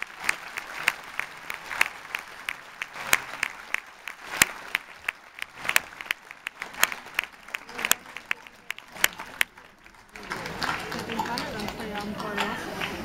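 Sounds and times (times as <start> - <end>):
hands clapping steadily: 0.0 - 13.0.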